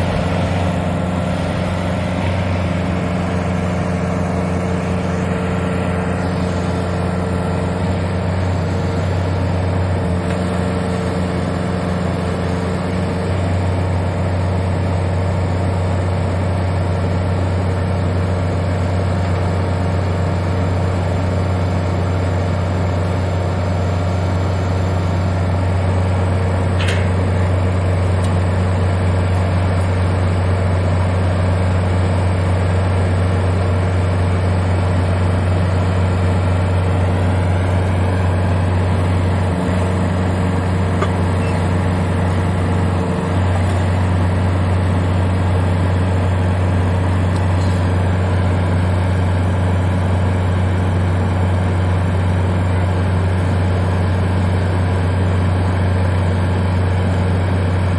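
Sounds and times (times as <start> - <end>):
engine low drone: 0.0 - 57.9.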